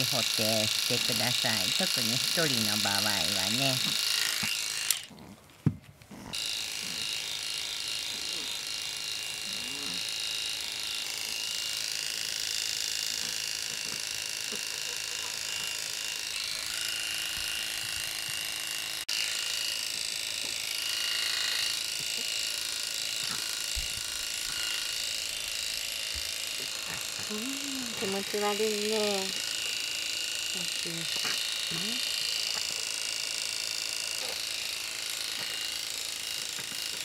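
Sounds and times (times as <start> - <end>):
electric pet clippers buzzing: 0.0 - 5.2, 6.1 - 37.0.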